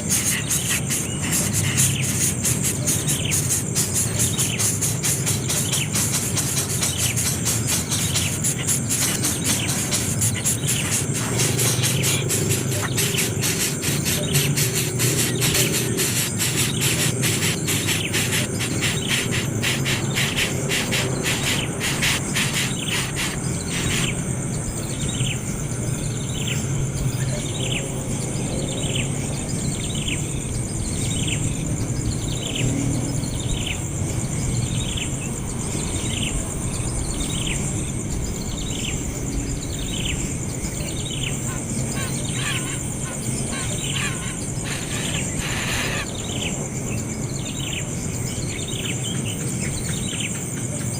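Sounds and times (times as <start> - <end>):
bird chirping: 0.0 - 50.9
insects trilling: 0.0 - 50.9.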